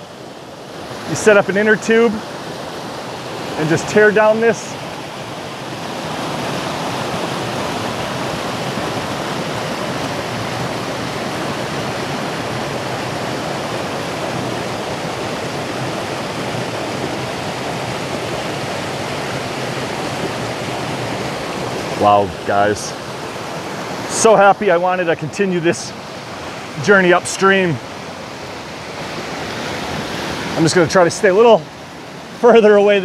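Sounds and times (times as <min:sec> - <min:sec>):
creek water rushing over rock: 0:00.0 - 0:33.0.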